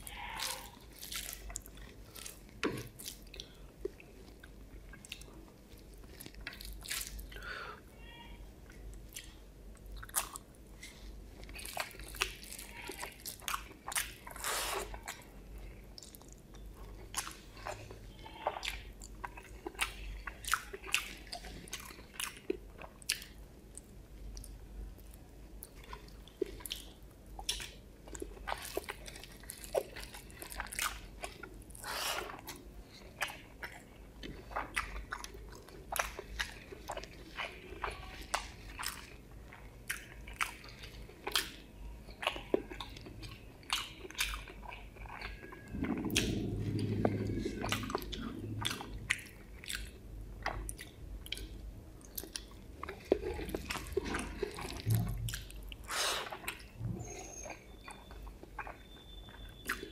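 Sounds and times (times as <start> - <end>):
person chewing with wet mouth smacks: 0.0 - 7.4, 8.7 - 59.9.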